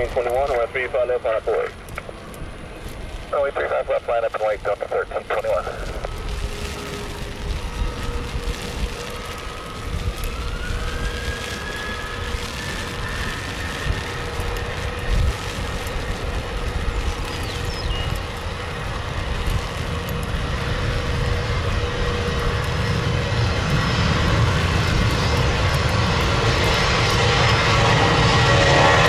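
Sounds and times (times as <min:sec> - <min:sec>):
jet engines whining: 0:00.0 - 0:29.0
low rumble: 0:00.0 - 0:29.0.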